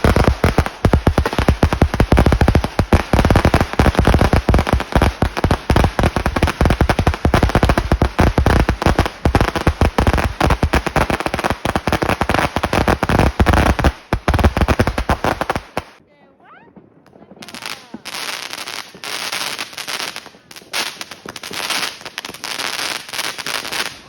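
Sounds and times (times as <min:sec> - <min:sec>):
firecrackers cracking: 0:00.0 - 0:16.0, 0:16.8 - 0:24.0.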